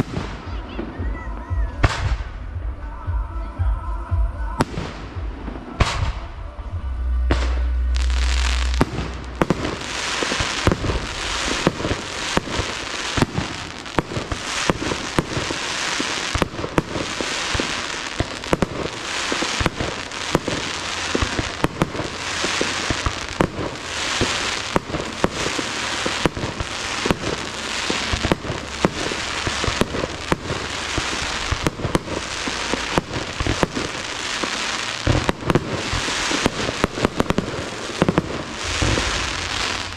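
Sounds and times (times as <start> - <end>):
deep low rumble: 0.0 - 39.9
fireworks bangs and crackling: 0.0 - 39.9.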